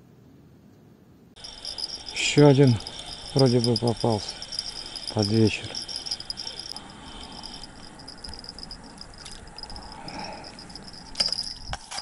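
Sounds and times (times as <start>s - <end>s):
crickets chirring: 1.4s - 12.0s.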